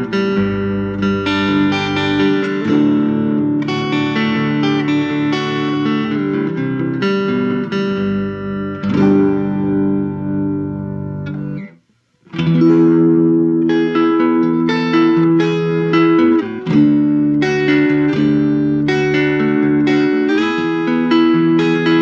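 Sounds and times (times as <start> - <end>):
electric guitar strumming chords: 0.0 - 22.0.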